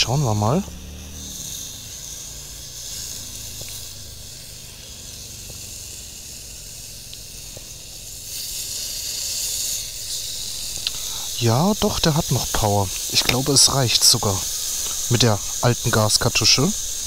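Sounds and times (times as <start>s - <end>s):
food sizzling: 0.0s - 17.0s
gas grill burner hissing: 0.0s - 17.0s
fork ticking: 1.0s - 17.0s.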